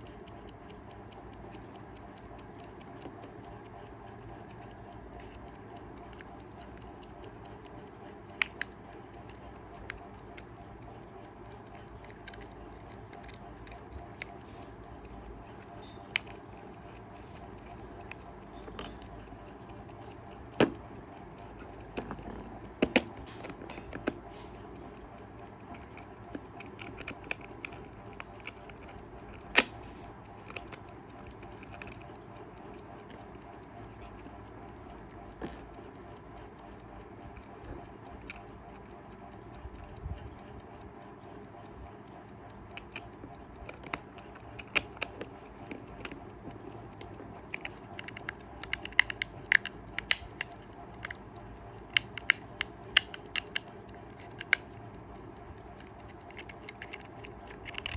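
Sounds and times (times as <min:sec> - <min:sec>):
alarm clock ticking: 0:00.0 - 0:57.9
sharp handling clicks: 0:00.0 - 0:57.9.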